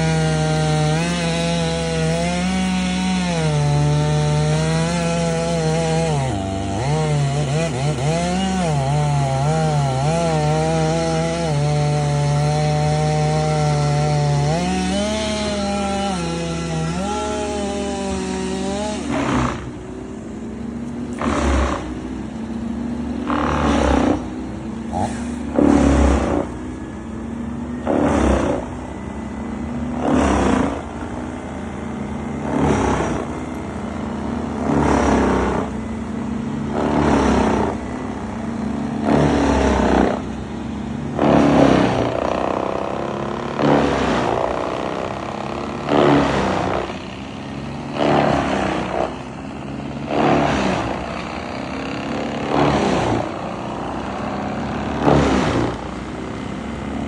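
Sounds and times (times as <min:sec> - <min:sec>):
petrol engine with cutting surges: 0:00.0 - 0:57.0.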